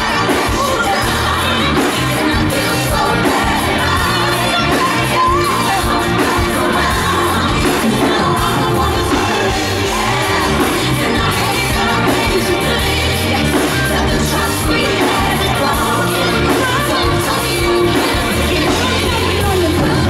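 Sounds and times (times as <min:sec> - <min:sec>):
live pop song: 0:00.0 - 0:20.0
steady bass beat: 0:00.0 - 0:20.0
woman singing amplified: 0:00.0 - 0:20.0.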